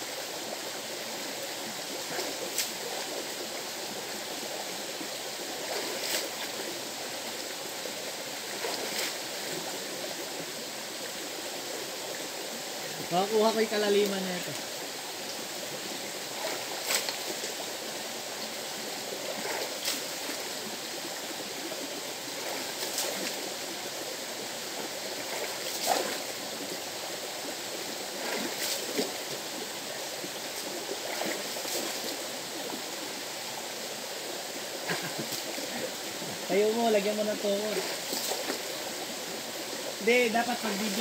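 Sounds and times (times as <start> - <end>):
river water flowing: 0.0 - 41.0.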